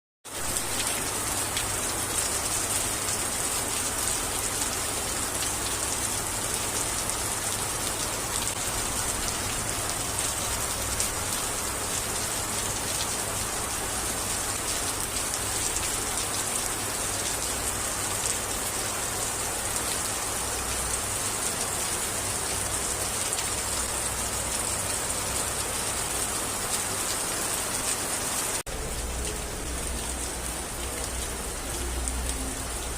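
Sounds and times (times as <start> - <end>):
heavy rain pouring: 0.3 - 32.9.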